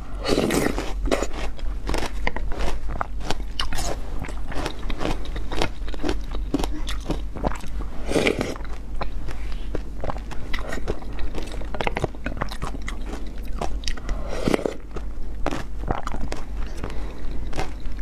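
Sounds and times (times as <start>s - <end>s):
chewing and crunching: 0.1s - 18.0s.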